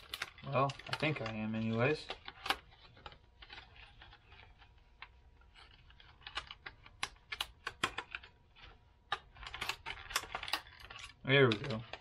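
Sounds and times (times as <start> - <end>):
sharp plastic clicks and crackles: 0.0 - 12.0.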